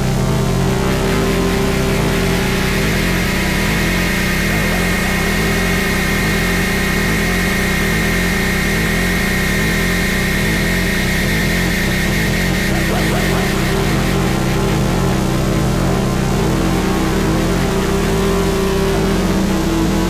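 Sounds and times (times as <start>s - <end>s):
harsh noise wall music: 0.0s - 20.0s.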